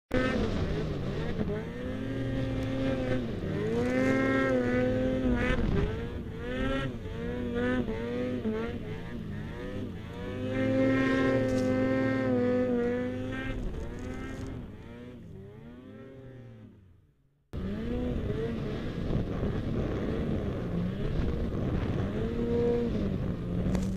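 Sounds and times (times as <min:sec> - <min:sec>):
snowmobile engine revving: 0:00.1 - 0:23.9.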